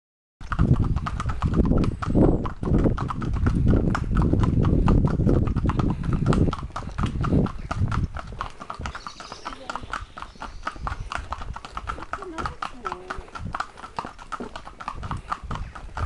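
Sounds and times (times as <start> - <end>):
hooves clip-clopping on tarmac: 0.4 - 16.0.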